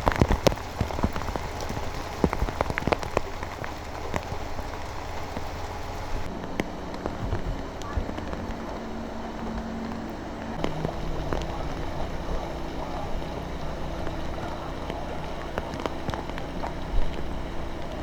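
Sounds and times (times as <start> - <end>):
drops ticking: 0.0 - 18.0
low engine hum: 0.0 - 18.0
rain and floodwater rushing: 0.0 - 18.0.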